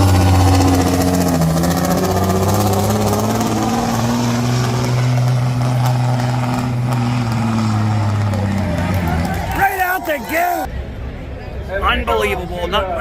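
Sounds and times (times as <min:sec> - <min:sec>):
diesel truck engine under load: 0:00.0 - 0:10.7.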